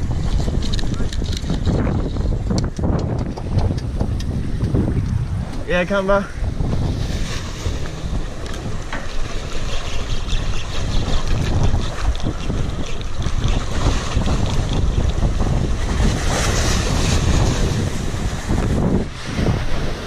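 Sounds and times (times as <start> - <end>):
sea washing: 0.0 - 20.0
wind buffeting microphone: 0.0 - 20.0.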